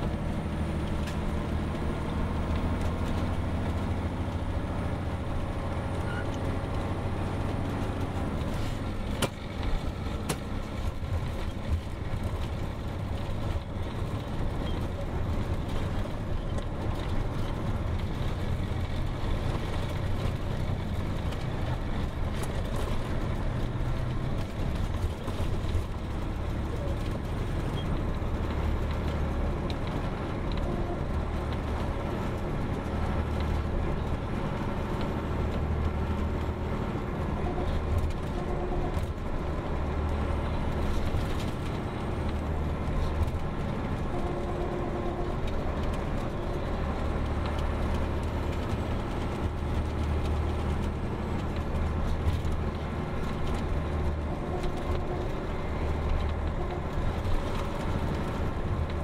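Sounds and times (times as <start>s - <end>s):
diesel engine drone in bus cabin: 0.0s - 59.0s.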